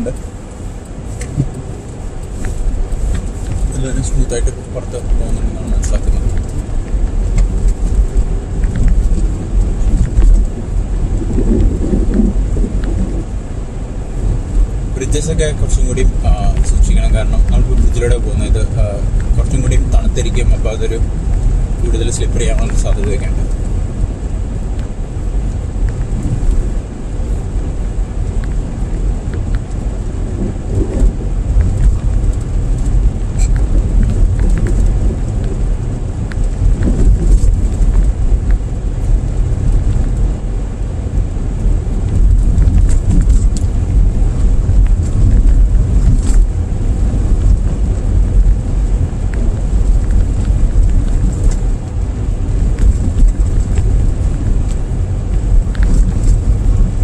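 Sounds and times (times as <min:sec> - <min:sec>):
car road noise from inside: 0:00.0 - 0:57.0.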